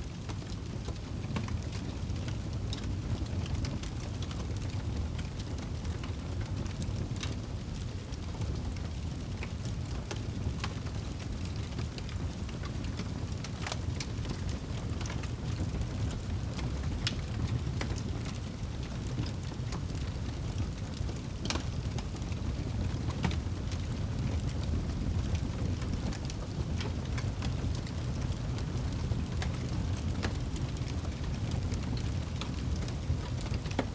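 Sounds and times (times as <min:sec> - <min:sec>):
fire crackles and pops: 0:00.0 - 0:33.9
low rumble of flames: 0:00.0 - 0:33.9.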